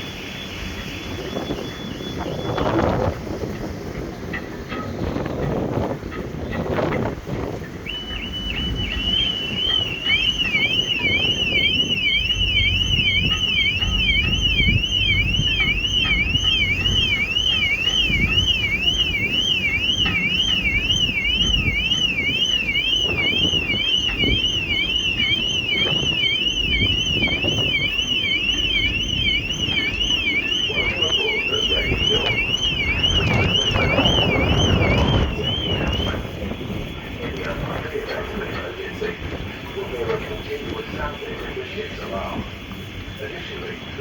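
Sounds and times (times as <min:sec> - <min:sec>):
electronic alarm warbling: 0:00.0 - 0:44.0
low rumble of vessel: 0:00.0 - 0:44.0
wind on microphone: 0:00.0 - 0:44.0.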